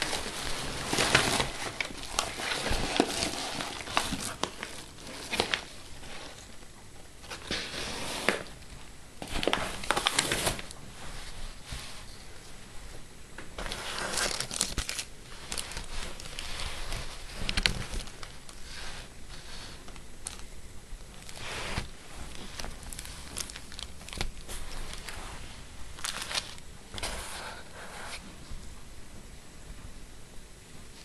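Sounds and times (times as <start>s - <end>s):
plastic packaging crinkling: 0.0s - 6.6s, 7.2s - 12.2s, 13.4s - 28.2s.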